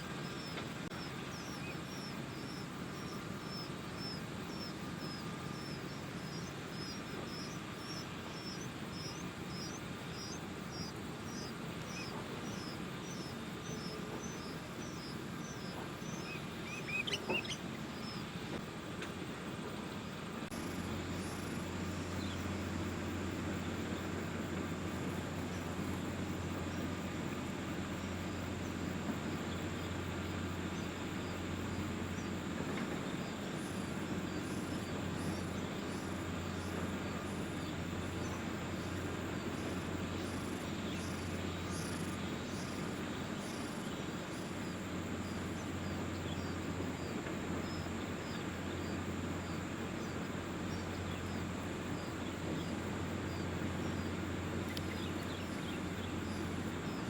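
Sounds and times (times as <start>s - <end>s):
insect chirping: 0.0s - 57.0s
low hum and hiss: 0.0s - 57.0s.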